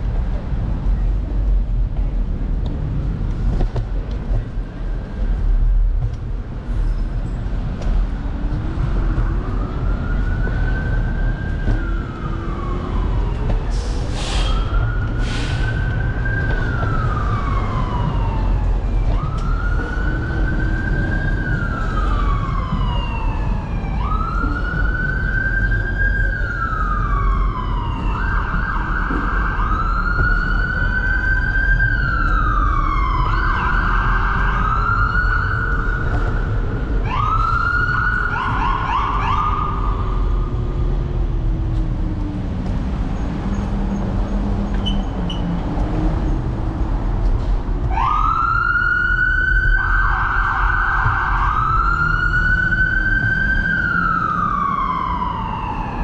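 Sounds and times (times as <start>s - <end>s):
low street rumble: 0.0s - 56.0s
emergency vehicle siren wailing: 8.3s - 56.0s.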